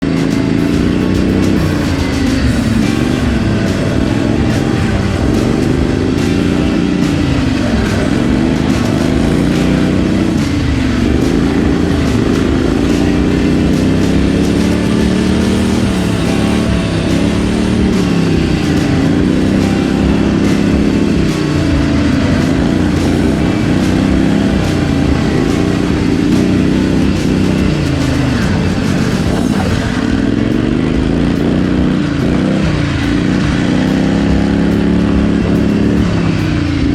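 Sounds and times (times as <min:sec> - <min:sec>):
small engine revving: 0:00.0 - 0:36.9.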